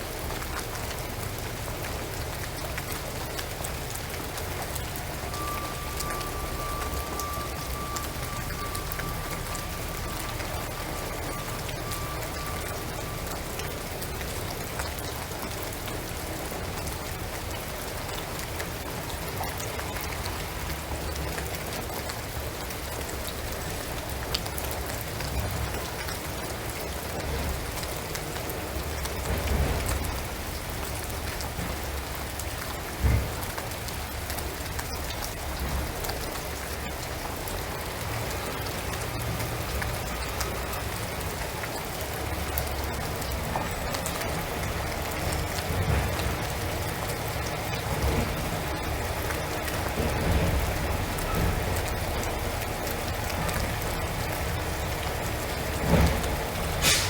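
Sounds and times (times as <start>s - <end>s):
rain pattering on roof and trees: 0.0s - 57.0s.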